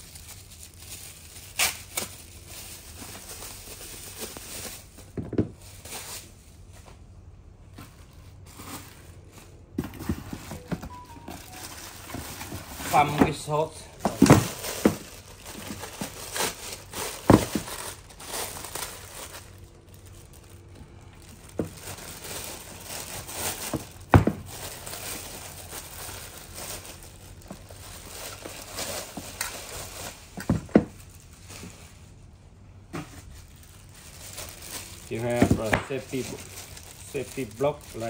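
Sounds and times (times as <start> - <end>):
plastic wrapping crinkling: 0.0 - 38.0.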